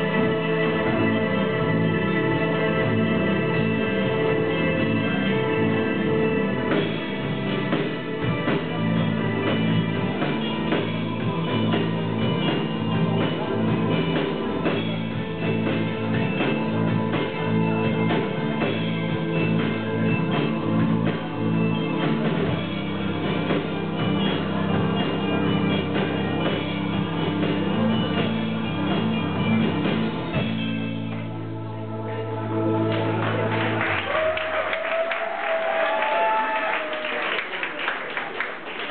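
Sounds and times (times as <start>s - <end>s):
drum kit: 0.0s - 31.6s
live rock band playing: 0.0s - 34.4s.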